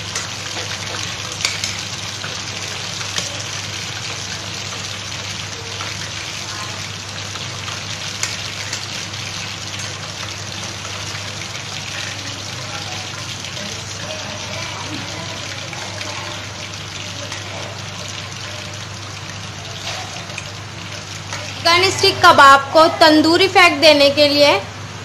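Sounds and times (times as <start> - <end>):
oil sizzling while deep-frying: 0.0 - 25.0.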